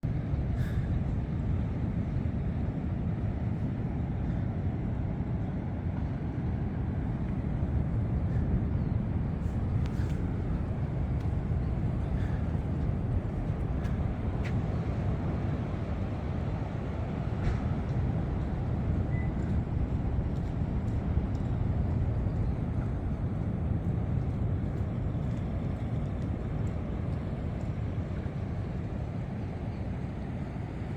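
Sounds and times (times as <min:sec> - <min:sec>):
wind buffeting the microphone: 0:00.0 - 0:30.9
surf on a sandy beach: 0:00.1 - 0:30.9.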